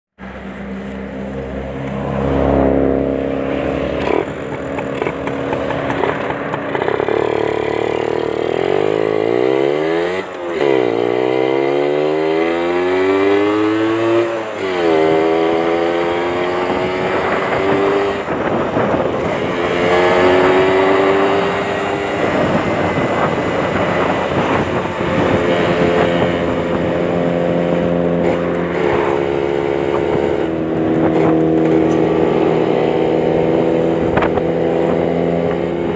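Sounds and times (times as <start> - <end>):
two-stroke motorcycle engine revving: 0.2 - 35.9.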